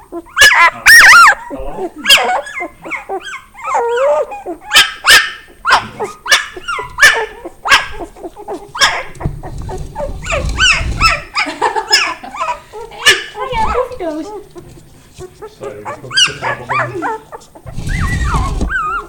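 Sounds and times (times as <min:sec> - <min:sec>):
puppies yapping: 0:00.0 - 0:19.0.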